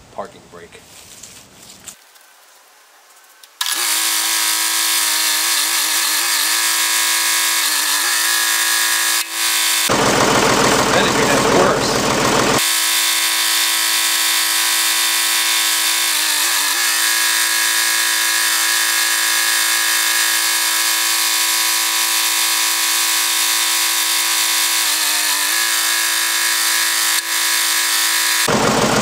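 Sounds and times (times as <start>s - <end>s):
backhoe engine buzzy drone: 3.6s - 29.0s.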